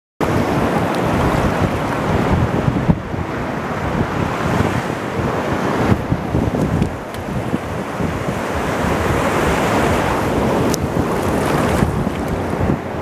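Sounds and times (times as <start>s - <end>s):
surf washing over sand: 0.2s - 13.0s
wind buffeting microphone: 0.2s - 13.0s.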